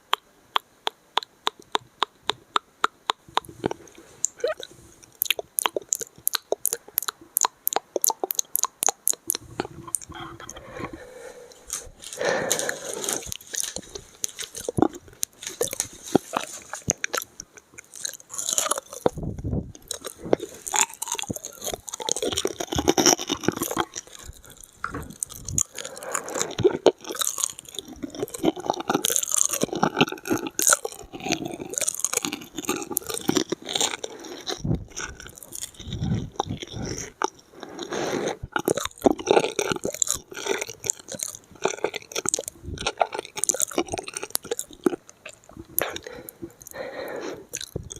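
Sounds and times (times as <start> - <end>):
tongue clicks: 0.0 - 47.9
wet chewing and crunching: 0.0 - 47.9.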